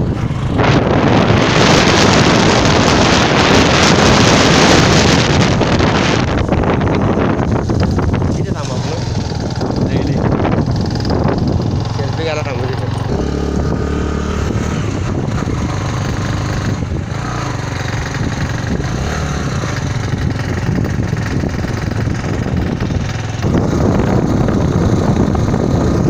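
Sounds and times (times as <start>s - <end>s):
vehicle engine running: 0.0s - 26.0s
wind buffeting microphone: 0.0s - 26.0s.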